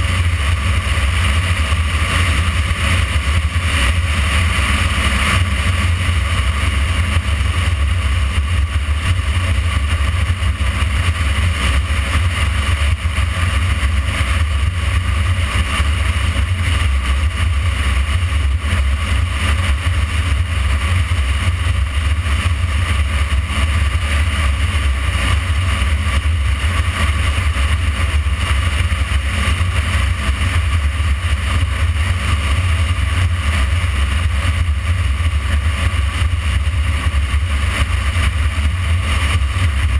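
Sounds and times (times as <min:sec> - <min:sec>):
motorcycle engine and tyre noise: 0:00.0 - 0:39.9.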